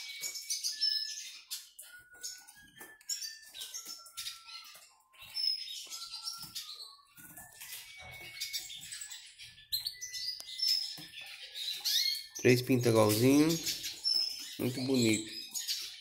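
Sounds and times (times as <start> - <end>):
songbirds chirping and twittering: 0.0 - 16.0.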